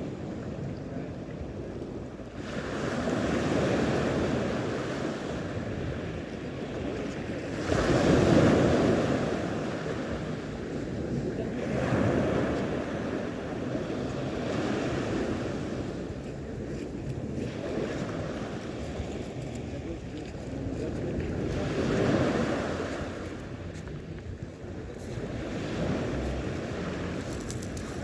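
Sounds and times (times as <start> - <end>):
sea waves washing in: 0.0 - 28.0
wind on microphone: 0.0 - 28.0.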